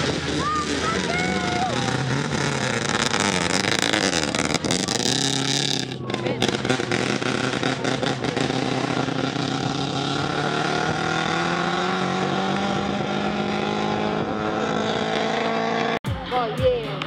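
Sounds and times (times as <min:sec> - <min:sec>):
rally car engine pulling away: 0:00.0 - 0:16.0.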